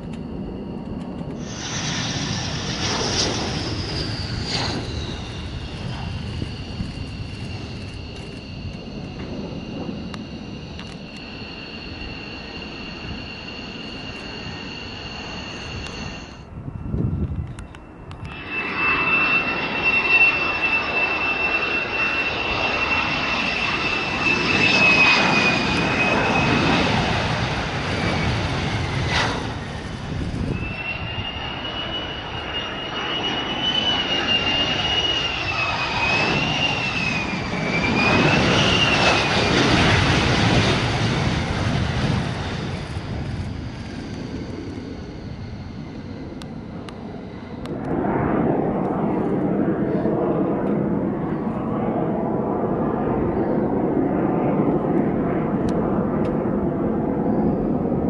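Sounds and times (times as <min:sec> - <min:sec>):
fighter jet noise with high whine: 0:00.0 - 0:58.0.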